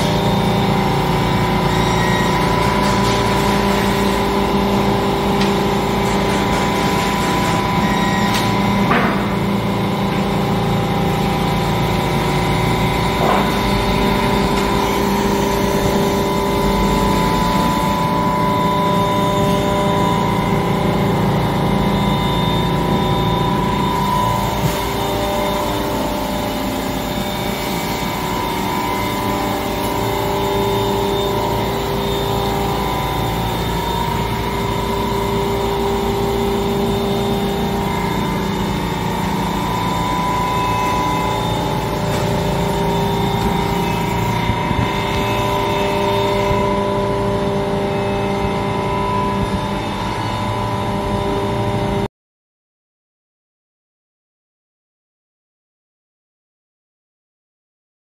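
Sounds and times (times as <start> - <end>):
machine hum with whining tones: 0.0 - 52.1.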